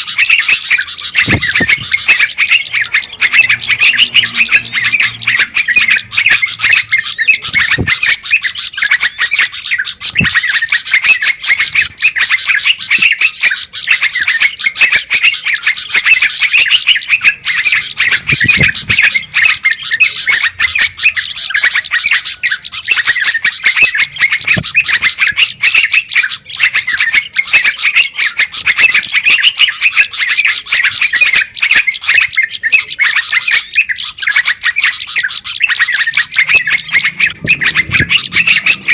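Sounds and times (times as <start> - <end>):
many songbirds chirping: 0.0 - 38.9.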